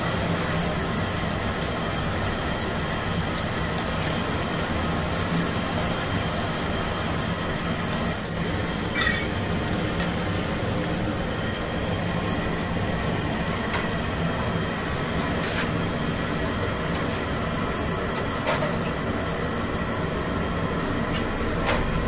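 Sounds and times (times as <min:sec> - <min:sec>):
deep-frying oil hissing: 0:00.0 - 0:22.0.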